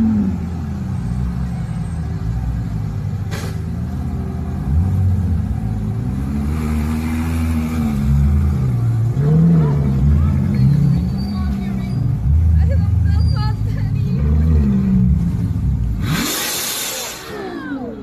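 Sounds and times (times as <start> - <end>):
car engine revving: 3.3 - 18.0.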